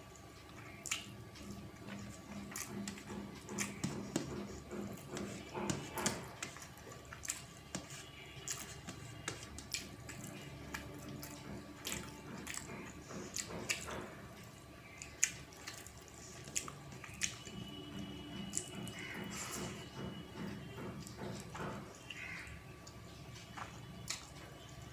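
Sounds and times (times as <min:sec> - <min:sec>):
wet chewing and smacking: 0:00.0 - 0:24.9.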